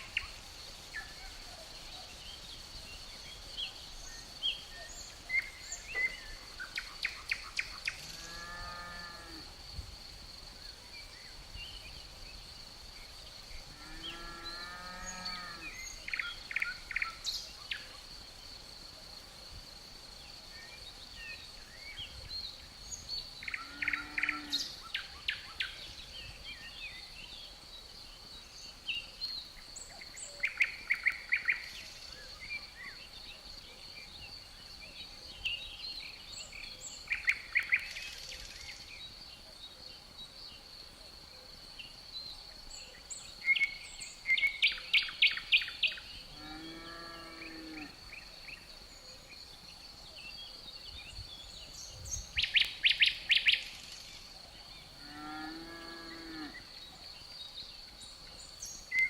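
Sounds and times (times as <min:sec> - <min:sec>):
songbirds singing: 0:00.0 - 0:09.4, 0:10.2 - 0:19.0, 0:19.6 - 0:59.0
insects trilling: 0:00.0 - 0:59.0.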